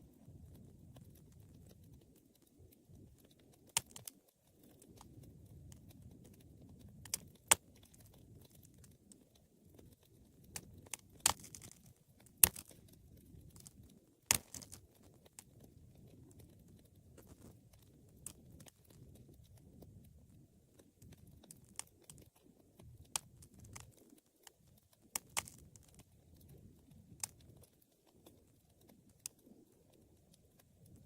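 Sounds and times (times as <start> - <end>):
low rumble of flames: 0.0 - 31.0
wood fire crackling and popping: 0.0 - 31.0.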